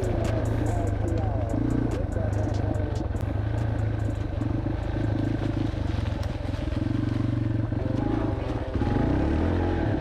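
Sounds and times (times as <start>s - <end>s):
dirt bike engine under throttle: 0.0s - 10.0s.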